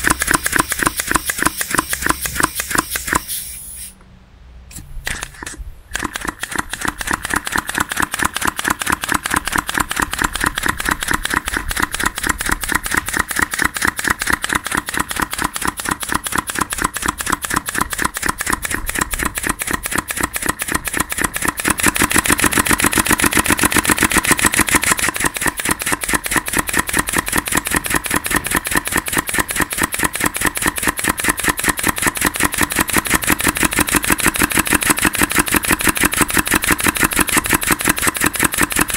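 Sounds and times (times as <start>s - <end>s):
air engine popping rapidly: 0.0s - 4.0s, 4.7s - 38.9s.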